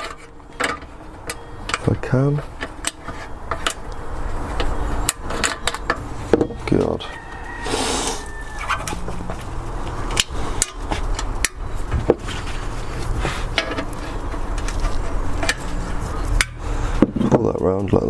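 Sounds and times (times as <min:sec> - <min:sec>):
hip-hop beat: 0:02.7 - 0:18.0.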